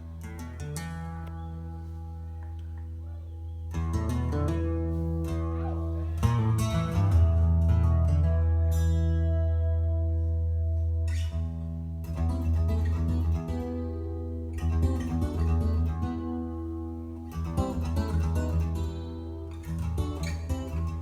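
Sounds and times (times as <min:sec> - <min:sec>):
deep bass: 0:00.0 - 0:21.0
plucked guitar notes: 0:00.0 - 0:21.0.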